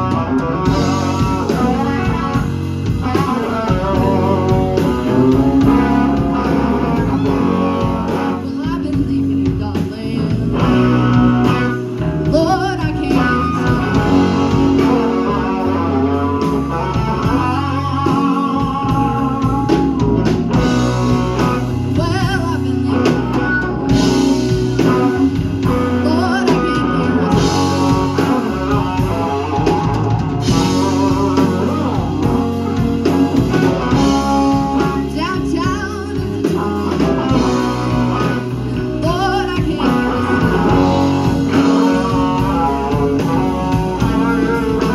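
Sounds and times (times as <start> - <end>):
bass: 0.0 - 44.9
drum kit: 0.0 - 44.9
overdriven electric guitar: 0.0 - 44.9
woman singing: 3.1 - 32.8, 33.5 - 44.9.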